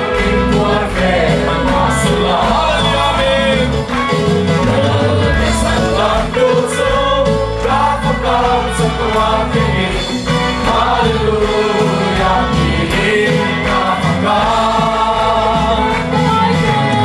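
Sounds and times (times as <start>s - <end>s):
group singing a hymn: 0.0s - 17.0s
instrumental accompaniment: 0.0s - 17.0s.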